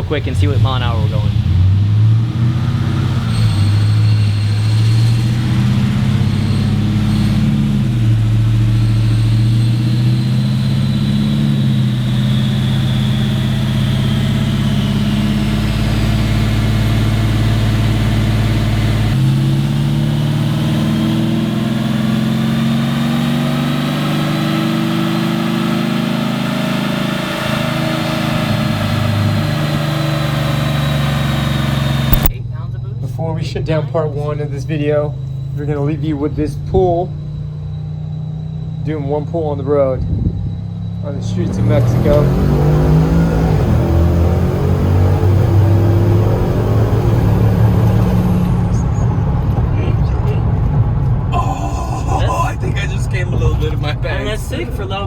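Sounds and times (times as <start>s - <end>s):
truck engine under load: 0.0s - 39.4s, 40.1s - 55.0s.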